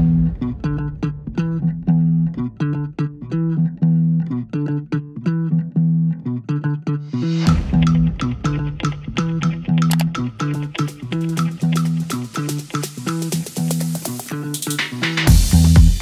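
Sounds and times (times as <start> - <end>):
plucked guitar and bass music: 0.0 - 16.0.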